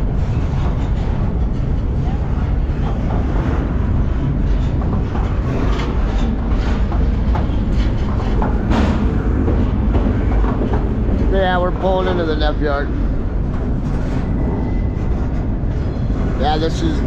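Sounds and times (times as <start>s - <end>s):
clanks and rattles: 0.0s - 17.0s
freight train rumble: 0.0s - 17.0s.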